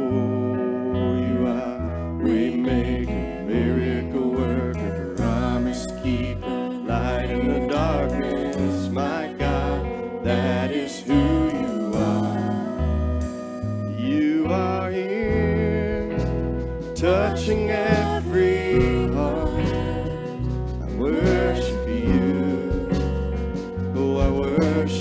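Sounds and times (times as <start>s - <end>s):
bass notes: 0.0s - 25.0s
person singing: 0.0s - 25.0s
worship band music: 0.0s - 25.0s.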